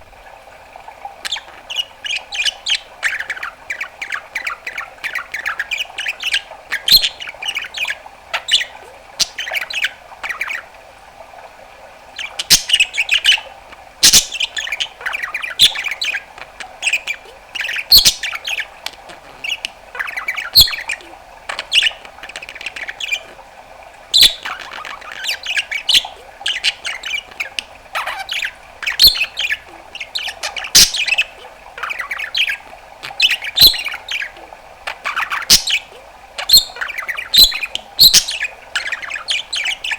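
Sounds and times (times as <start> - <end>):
budgerigar warbling and chattering: 1.2 - 10.7, 12.2 - 23.4, 24.1 - 39.9.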